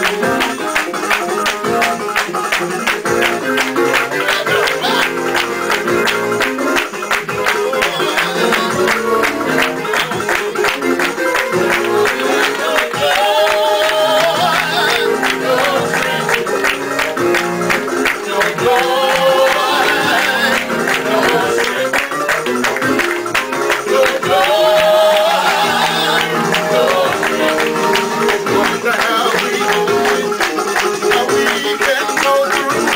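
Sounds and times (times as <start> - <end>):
fast praise music: 0.0 - 32.9.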